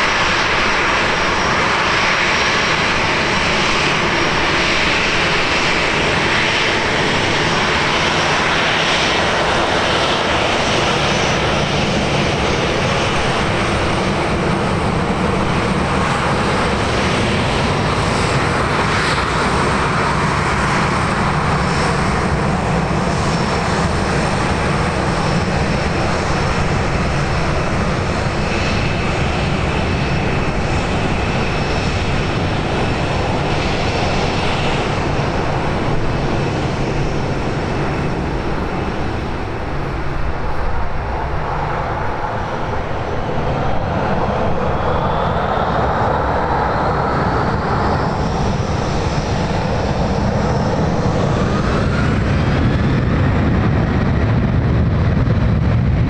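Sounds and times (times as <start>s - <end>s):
airliner engines roaring: 0.0s - 56.0s.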